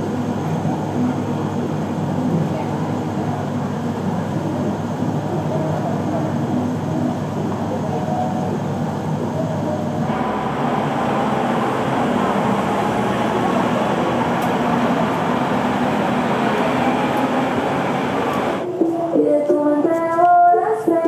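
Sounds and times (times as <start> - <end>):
train running rumble and hiss: 0.0 - 19.1.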